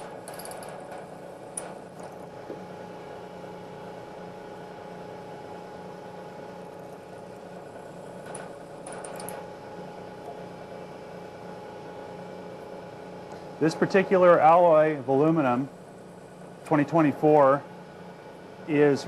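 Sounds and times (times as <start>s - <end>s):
milling machine spindle running: 0.0s - 19.0s.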